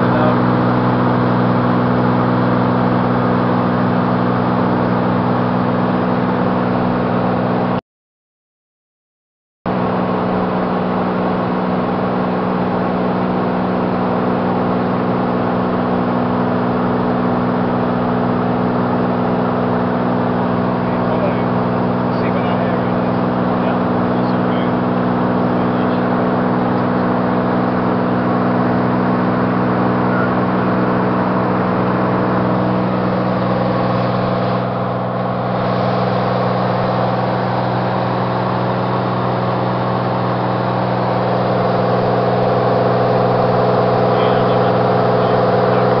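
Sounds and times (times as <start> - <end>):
aircraft engine droning in cabin: 0.0 - 7.8, 9.7 - 46.0.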